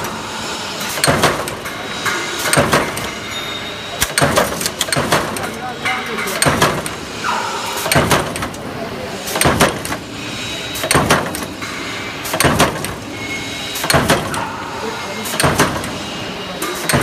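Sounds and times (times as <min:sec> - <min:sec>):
press metallic clanks: 0:00.0 - 0:17.0
steady machine noise: 0:00.0 - 0:17.0.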